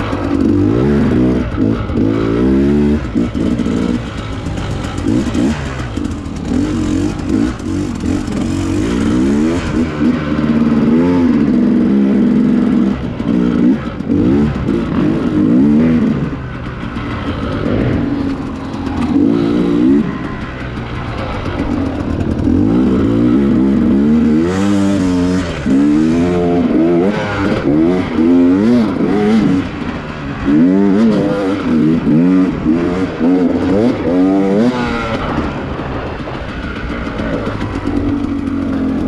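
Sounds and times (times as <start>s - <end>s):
dirt bike engine revving: 0.0s - 39.0s
steady rushing noise: 0.0s - 39.0s.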